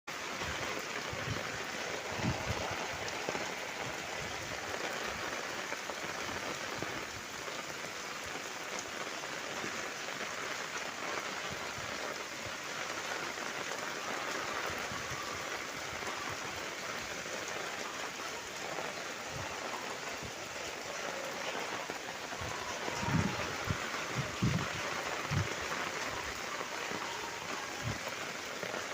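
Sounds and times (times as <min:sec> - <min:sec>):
steady rain: 0:00.1 - 0:28.9.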